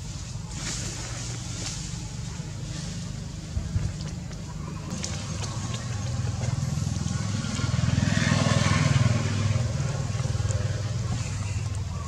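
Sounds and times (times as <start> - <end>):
vehicle engine passing by: 0.6 - 12.0.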